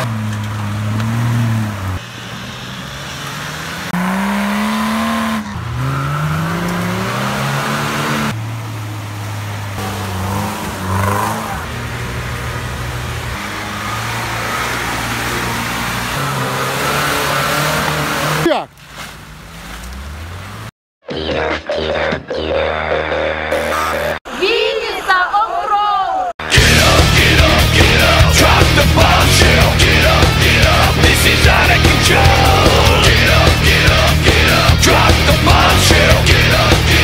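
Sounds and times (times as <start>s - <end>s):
off-road engines revving in mud: 0.0s - 20.7s, 26.4s - 37.0s.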